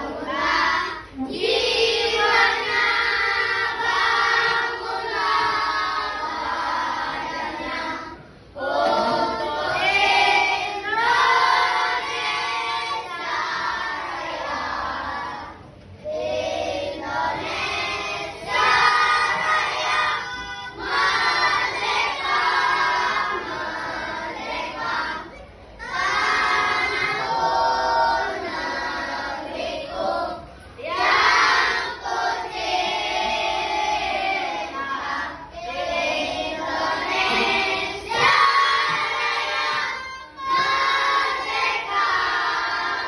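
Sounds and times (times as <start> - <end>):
children singing together: 0.0 - 43.0.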